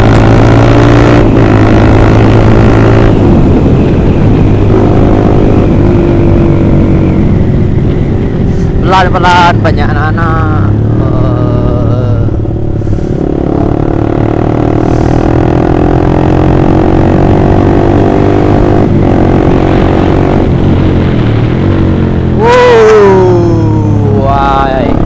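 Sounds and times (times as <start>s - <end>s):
motorcycle engine while riding: 0.0s - 25.0s.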